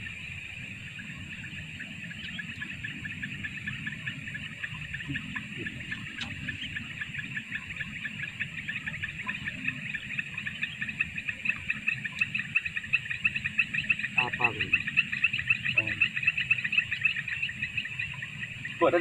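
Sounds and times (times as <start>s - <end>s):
frogs chirping: 0.0s - 19.0s
high-pitched whine: 0.0s - 19.0s.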